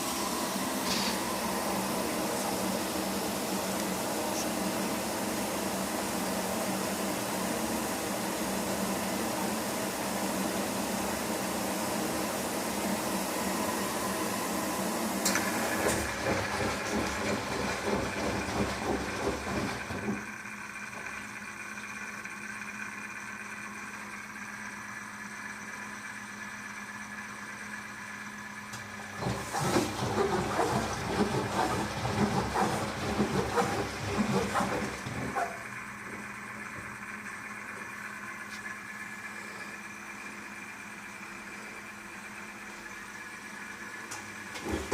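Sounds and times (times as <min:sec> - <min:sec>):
washing machine hum: 0:00.0 - 0:44.9.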